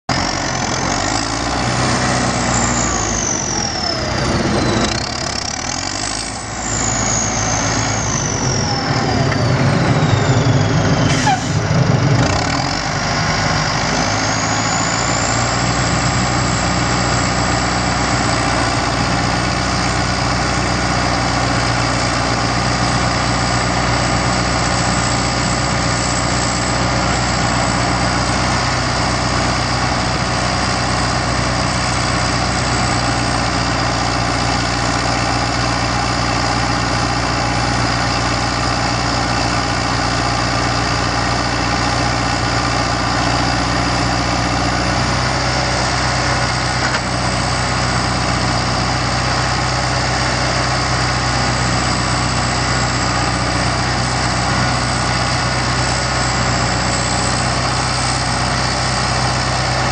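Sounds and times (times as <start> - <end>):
diesel engine running: 0.1 - 59.9.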